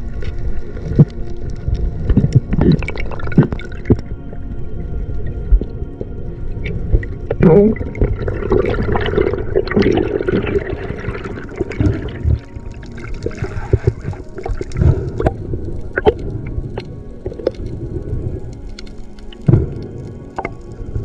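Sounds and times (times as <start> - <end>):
water sloshing and gurgling: 0.0 - 21.0.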